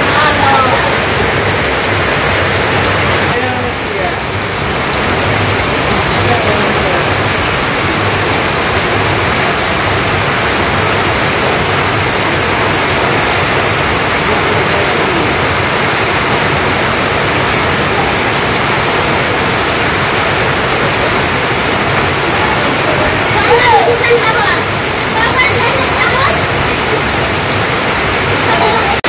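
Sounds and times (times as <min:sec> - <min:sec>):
heavy rain on tin roofs: 0:00.0 - 0:29.0.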